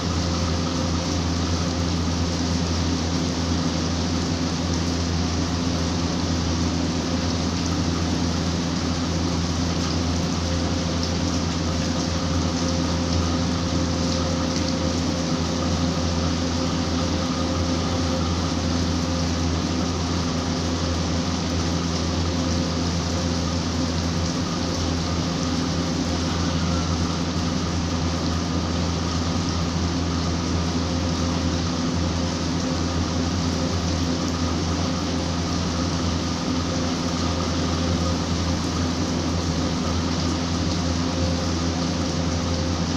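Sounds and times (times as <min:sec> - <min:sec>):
constant low hum: 0:00.0 - 0:42.9
steady rain falling: 0:00.0 - 0:42.9.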